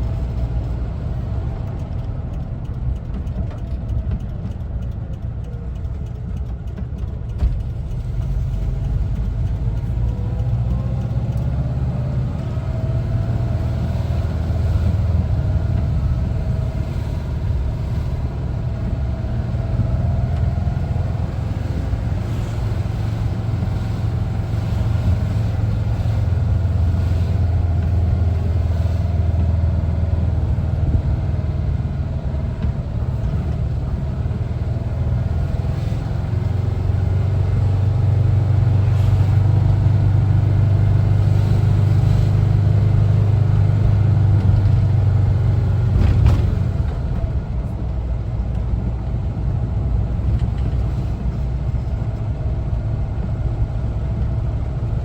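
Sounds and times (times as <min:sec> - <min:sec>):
road noise: 0:00.0 - 0:55.0
vehicle engine rumbling: 0:00.0 - 0:55.0.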